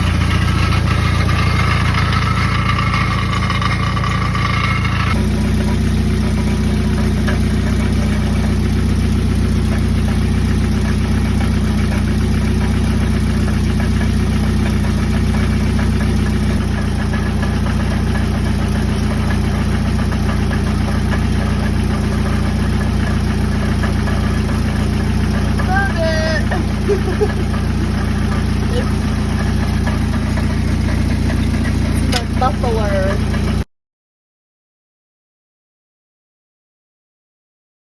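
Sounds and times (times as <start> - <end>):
car engine idling with rattle: 0.0 - 33.7.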